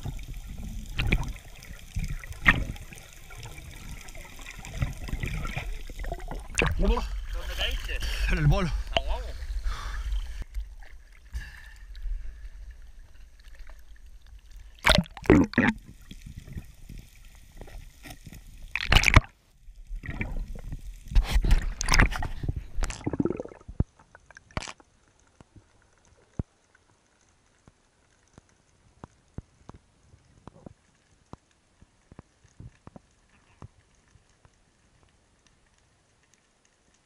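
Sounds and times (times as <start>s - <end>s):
underwater sound: 0.0s - 31.6s
faint underwater clicks: 0.0s - 37.0s.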